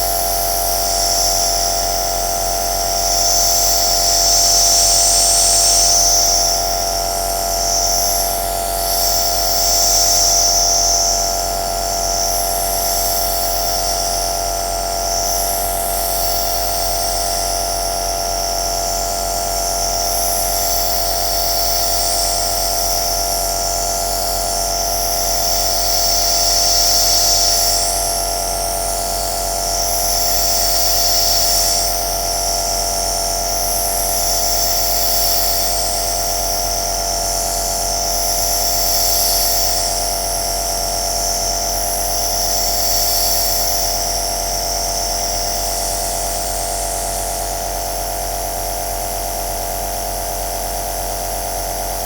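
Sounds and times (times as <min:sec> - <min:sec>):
nebulizer motor hum: 0:00.0 - 0:47.0.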